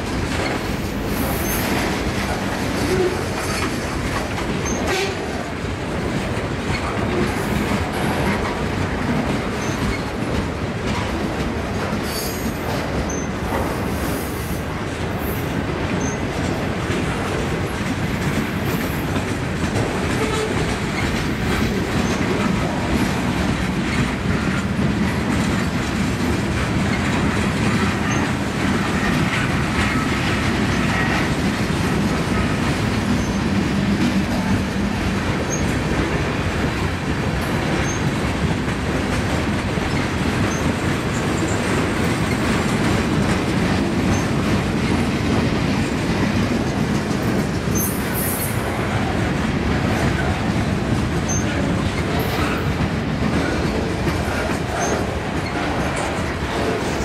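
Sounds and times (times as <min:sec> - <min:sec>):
freight train rolling past: 0:00.0 - 0:57.0
wheels clacking over rail joints: 0:00.0 - 0:57.0.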